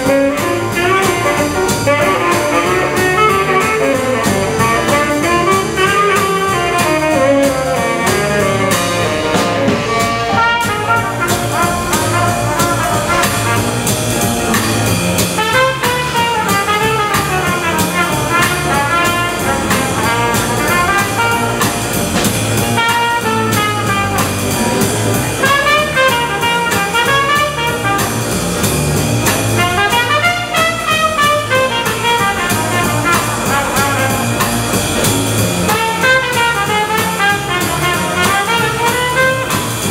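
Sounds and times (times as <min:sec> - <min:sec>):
drums: 0:00.0 - 0:39.9
piano: 0:00.0 - 0:39.9
saxophone: 0:00.0 - 0:39.9
trombone: 0:00.0 - 0:39.9
trumpet melody: 0:00.0 - 0:39.9.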